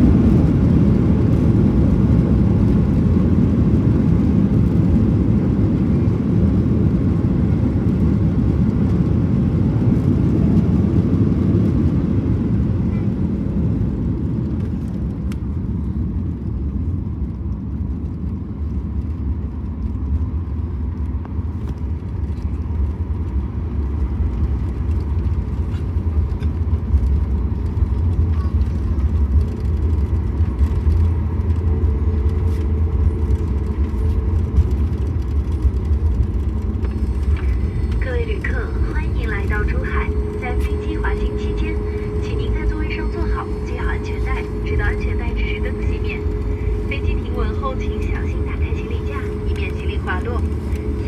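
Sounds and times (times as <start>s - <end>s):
airplane cabin rumble: 0.0s - 51.0s.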